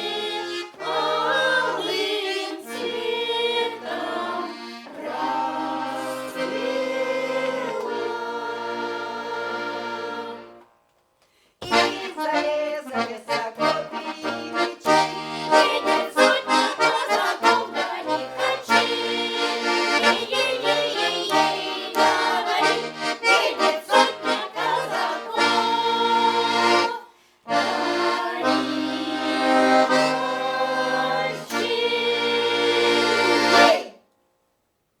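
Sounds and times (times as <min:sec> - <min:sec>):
accordion folk music: 0:00.0 - 0:10.7, 0:11.6 - 0:34.0.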